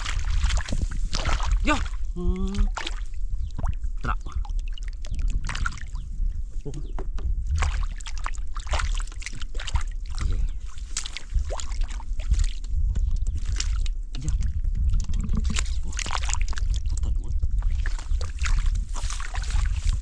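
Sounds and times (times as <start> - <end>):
water splashing in a stream: 0.0 - 3.8, 4.4 - 6.0, 7.5 - 12.7, 13.3 - 17.0, 17.6 - 20.0
steady low rumble: 0.0 - 20.0.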